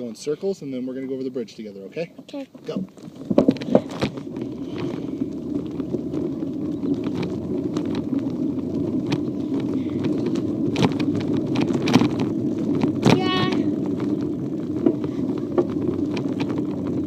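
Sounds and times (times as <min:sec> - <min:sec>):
wind and tyre rumble: 0:00.0 - 0:17.0
bike knocks and rattles: 0:02.6 - 0:17.0.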